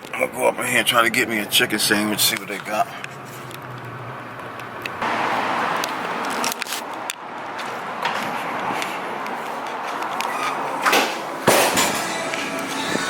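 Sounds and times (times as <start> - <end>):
street traffic ambience: 0.0 - 13.0.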